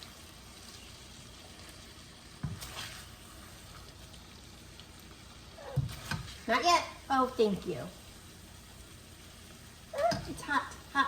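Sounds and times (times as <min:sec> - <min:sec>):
noodles sizzling in a wok: 0:00.0 - 0:11.0.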